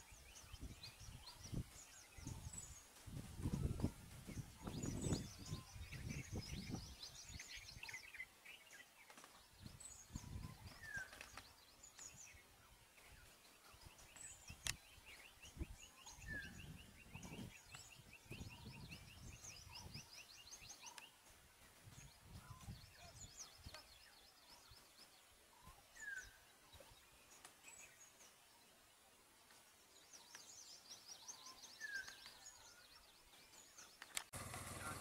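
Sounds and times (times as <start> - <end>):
birds chirping and trilling: 0.0 - 35.0.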